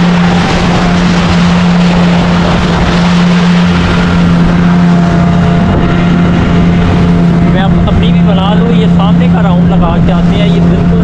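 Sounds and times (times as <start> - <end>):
speedboat motor running: 0.0 - 11.0
water rushing along hull: 0.0 - 11.0.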